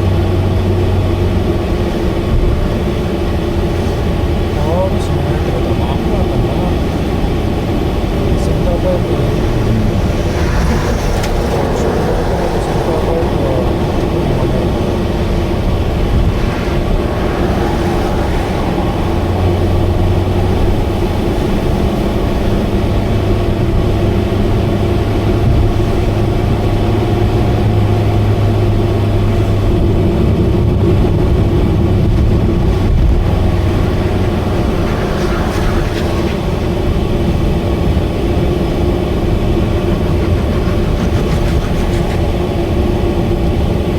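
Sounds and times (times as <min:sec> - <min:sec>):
car exhaust drone: 0:00.0 - 0:43.9
deep hum: 0:00.0 - 0:43.9.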